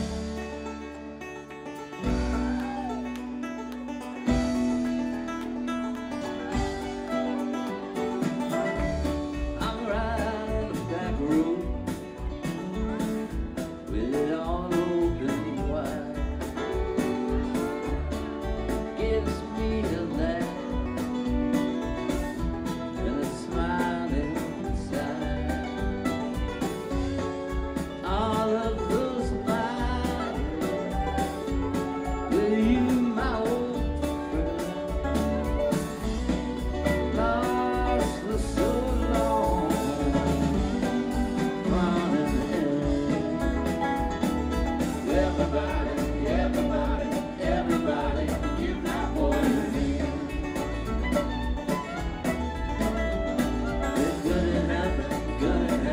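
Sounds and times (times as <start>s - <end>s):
country song with singing and guitar: 0.0s - 55.9s.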